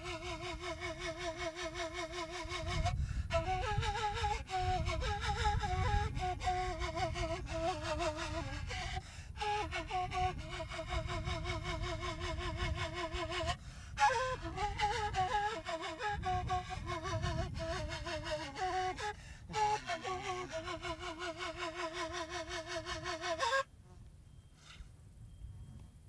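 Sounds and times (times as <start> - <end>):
flute playing folk melody: 0.0 - 23.7.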